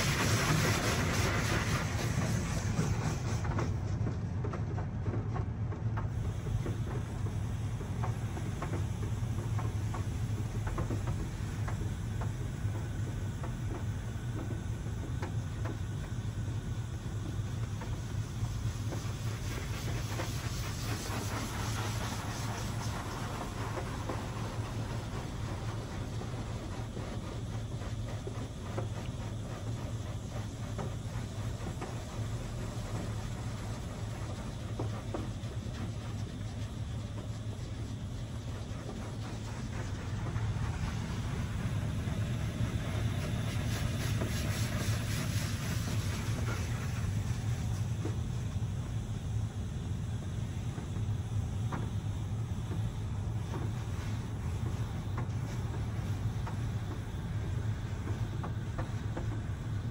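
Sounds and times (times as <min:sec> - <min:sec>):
water jets spraying onto car: 0:00.0 - 0:04.0, 0:06.0 - 0:59.9
constant low hum: 0:00.0 - 0:59.9.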